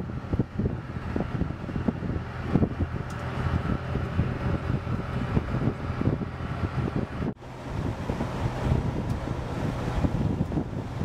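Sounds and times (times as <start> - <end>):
tracked vehicle engine drone: 0.0 - 11.0
wind buffeting microphone: 0.0 - 11.0.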